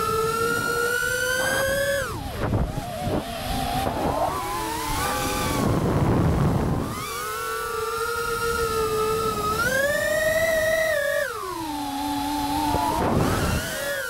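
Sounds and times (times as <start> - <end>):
drone motors whining: 0.0 - 14.0
rush of air noise: 0.0 - 14.0.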